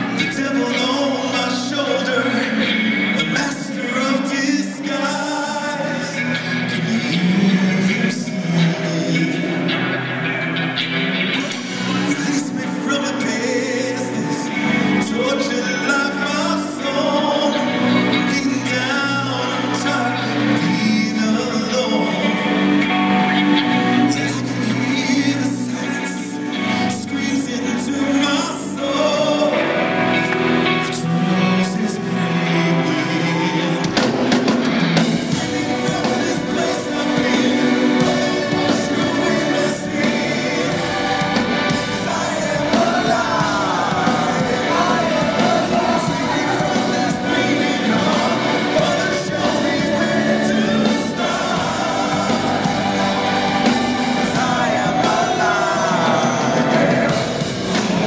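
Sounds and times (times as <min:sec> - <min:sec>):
man singing: 0:00.0 - 0:10.4, 0:11.4 - 0:58.0
live rock band playing: 0:00.0 - 0:58.0.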